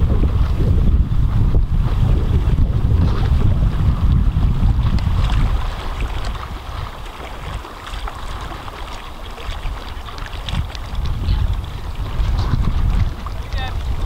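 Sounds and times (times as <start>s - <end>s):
small waves lapping: 0.0s - 14.0s
wind buffeting microphone: 0.0s - 14.0s.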